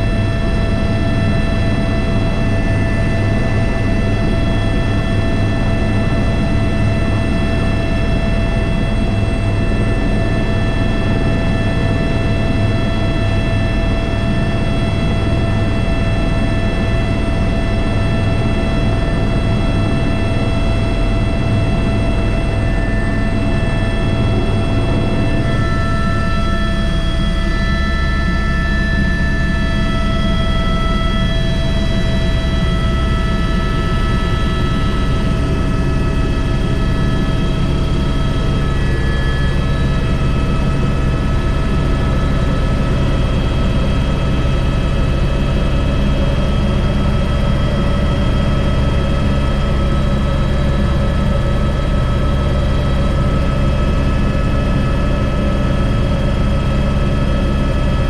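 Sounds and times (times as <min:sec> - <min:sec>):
helicopter rotor and engine drone: 0:00.0 - 0:58.0
turbine high whines: 0:00.0 - 0:58.0.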